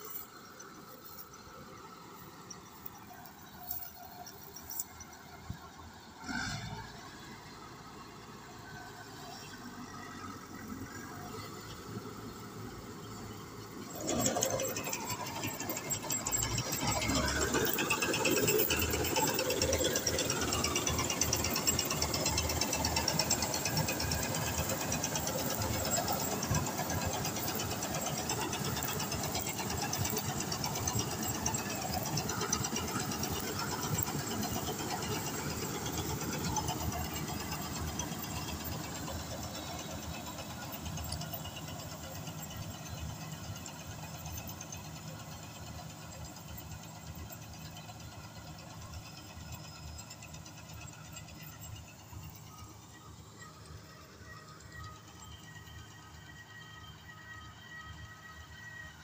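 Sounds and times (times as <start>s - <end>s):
combine harvester clatter: 0.0s - 59.0s
harvester engine: 0.0s - 59.0s.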